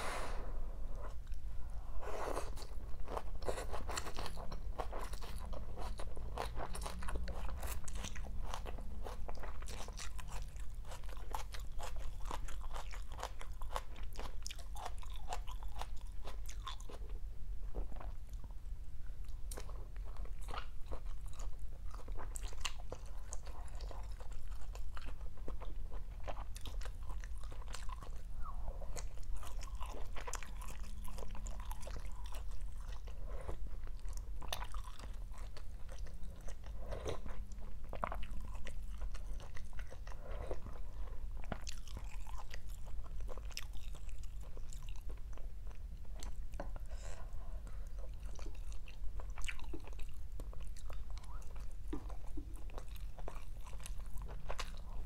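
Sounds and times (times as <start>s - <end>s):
chewing and crunching food: 2.0s - 55.0s.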